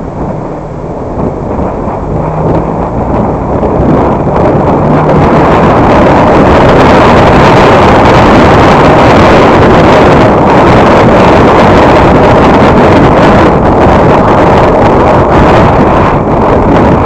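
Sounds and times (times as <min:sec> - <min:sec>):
car driving on road: 0:00.0 - 0:17.0
wind buffeting microphone: 0:00.0 - 0:17.0.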